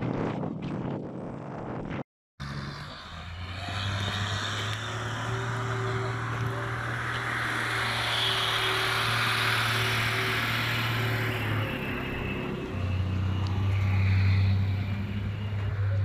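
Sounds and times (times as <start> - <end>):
vehicle engine humming: 2.4 - 16.0.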